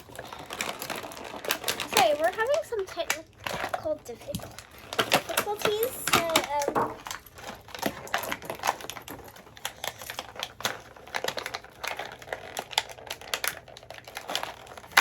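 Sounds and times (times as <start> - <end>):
plastic toy pieces clicking: 0.0 - 15.0.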